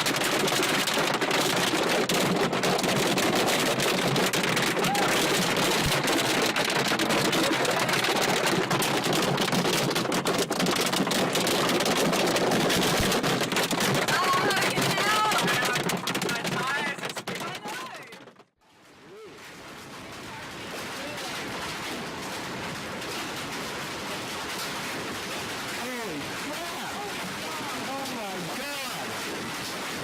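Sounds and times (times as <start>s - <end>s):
hail clattering on a surface: 0.0s - 18.5s, 19.7s - 30.0s.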